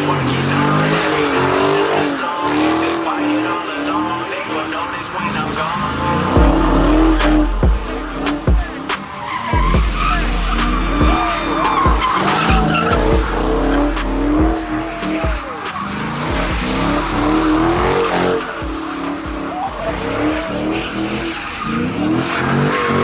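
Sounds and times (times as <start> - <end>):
car engine revving hard: 0.0 - 23.0
tyres squealing and skidding: 0.0 - 23.0.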